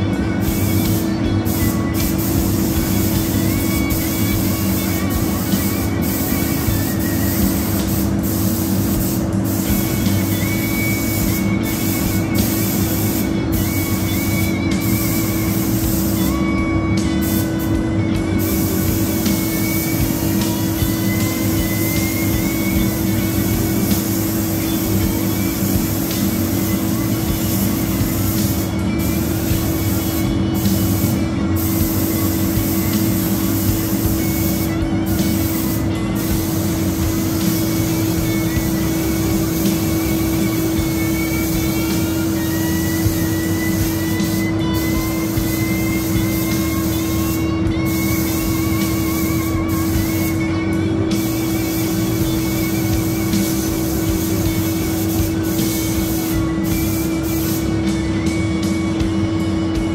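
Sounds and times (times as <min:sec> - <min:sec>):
spray gun hissing: 0:00.0 - 0:58.1.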